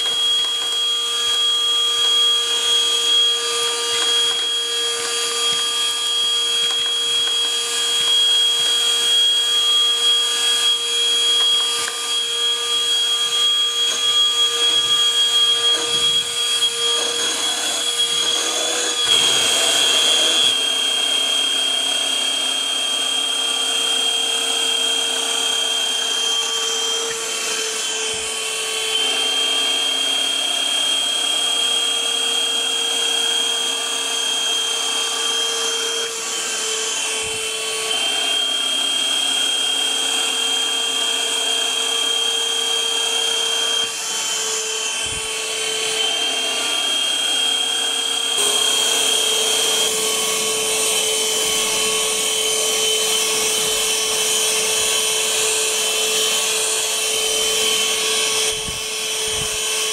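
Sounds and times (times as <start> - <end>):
handheld vacuum cleaner whining: 0.0 - 59.9.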